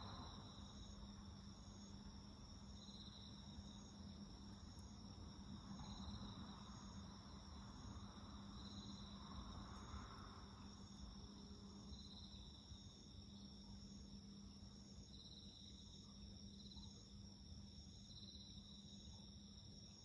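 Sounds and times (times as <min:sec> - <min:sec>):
loud insect chirp: 0:00.0 - 0:20.0.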